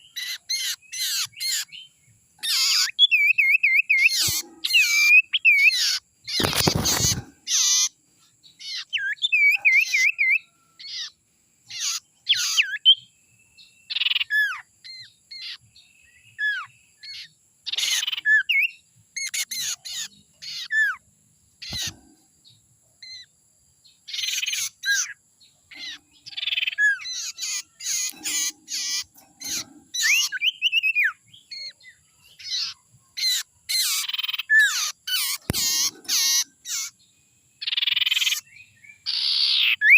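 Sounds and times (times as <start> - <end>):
bird chirps trills and whistles: 0.0 - 21.0, 23.9 - 39.9.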